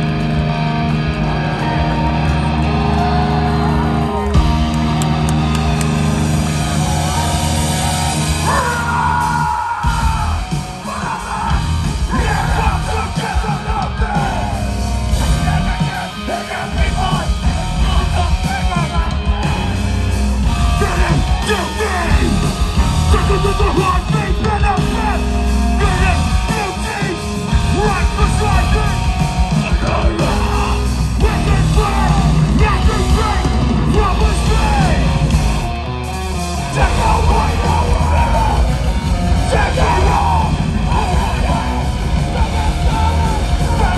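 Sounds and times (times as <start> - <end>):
live hardcore band playing: 0.0 - 43.9
shouted lead vocal: 0.0 - 43.9.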